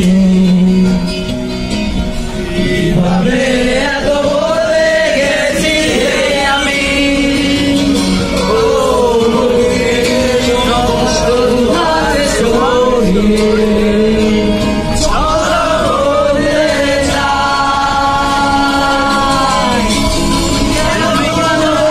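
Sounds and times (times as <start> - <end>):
men singing together: 2.4 - 21.9.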